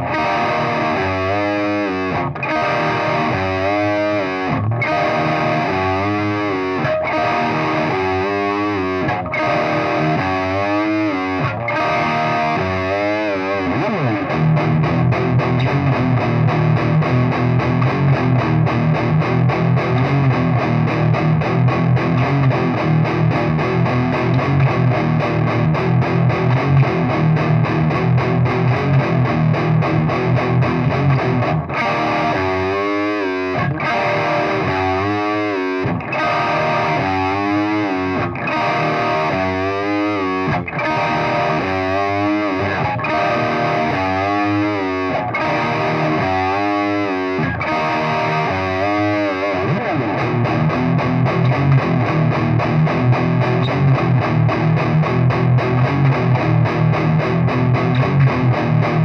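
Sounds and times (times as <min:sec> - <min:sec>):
distorted electric guitar riff: 0:00.0 - 0:59.0.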